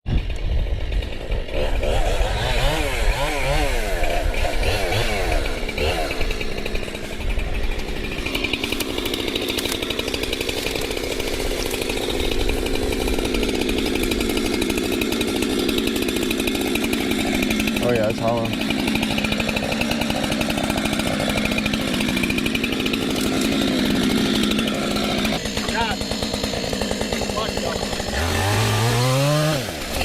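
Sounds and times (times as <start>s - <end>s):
chainsaw engine revving: 0.2s - 30.0s.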